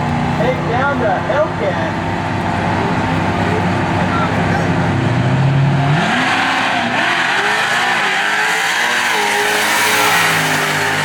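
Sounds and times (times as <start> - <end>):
car engine revving hard: 0.0 - 11.0
tire squeal: 0.0 - 11.0.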